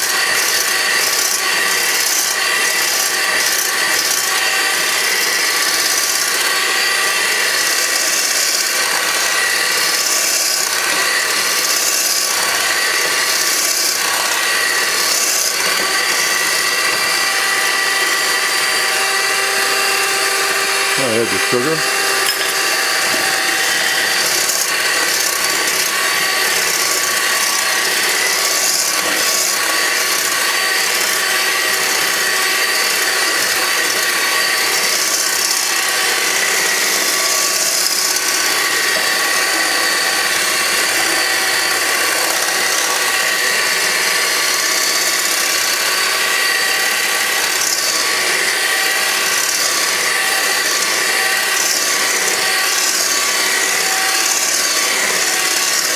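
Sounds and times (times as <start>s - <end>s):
electric hand mixer whining: 0.0s - 55.9s.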